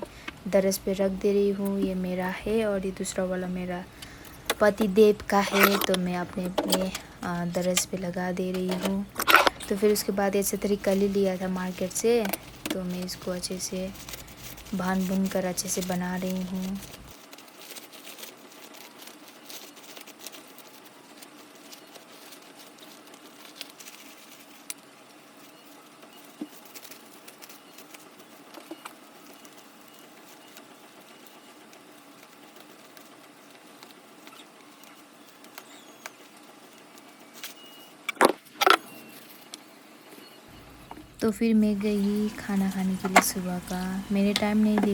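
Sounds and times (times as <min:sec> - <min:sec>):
food crackling in a pan: 0:00.3 - 0:44.9.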